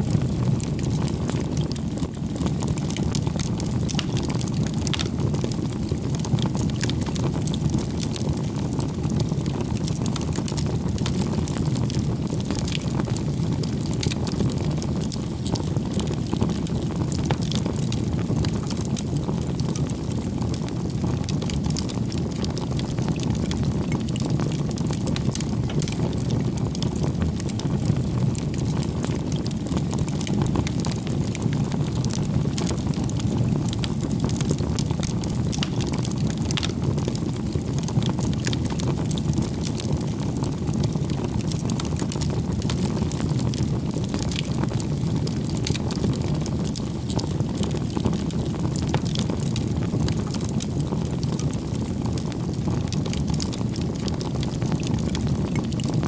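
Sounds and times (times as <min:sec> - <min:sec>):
low rumble of flames: 0:00.0 - 0:56.0
wood crackling and popping: 0:00.0 - 0:56.0.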